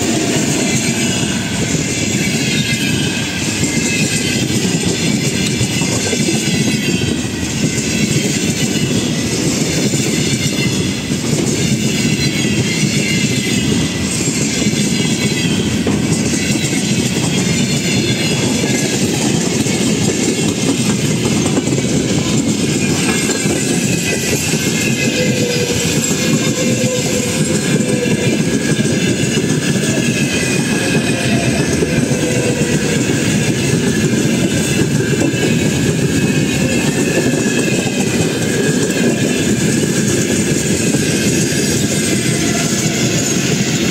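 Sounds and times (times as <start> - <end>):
train wheels clattering over rails: 0.0 - 43.9.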